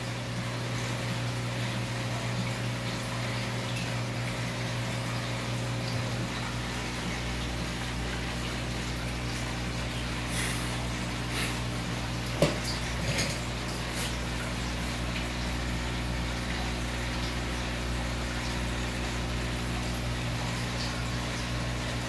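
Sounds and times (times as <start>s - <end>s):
aquarium filter pump humming: 0.0s - 22.0s
moving water: 0.0s - 22.0s.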